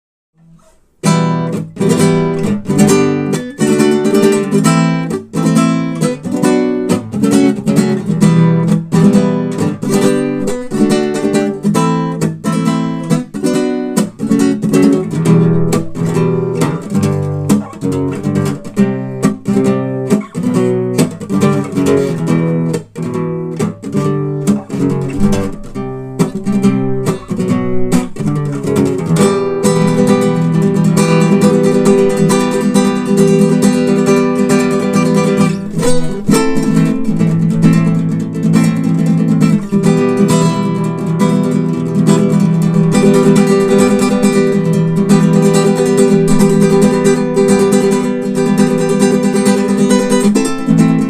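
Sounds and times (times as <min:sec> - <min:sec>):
acoustic guitar playing: 0:00.4 - 0:51.0.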